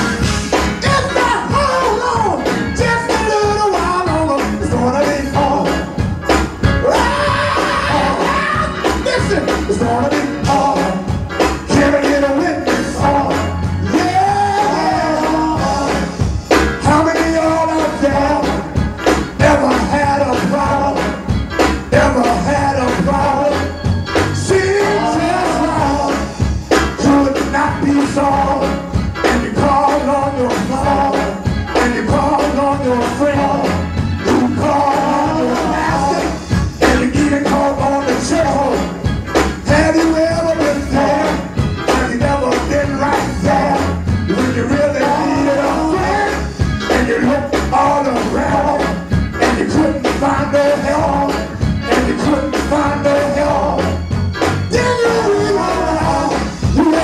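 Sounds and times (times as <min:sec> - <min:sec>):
gospel band music: 0:00.0 - 0:57.0
steady drum beat: 0:00.0 - 0:57.0
person singing: 0:06.8 - 0:18.8, 0:19.4 - 0:21.2, 0:21.9 - 0:23.8, 0:24.4 - 0:39.0, 0:39.7 - 0:54.0, 0:54.7 - 0:57.0.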